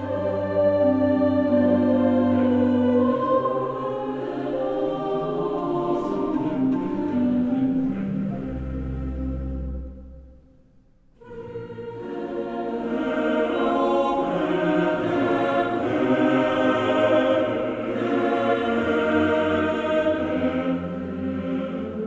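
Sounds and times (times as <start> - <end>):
choir singing sustained chords: 0.0 - 10.6, 11.2 - 22.0.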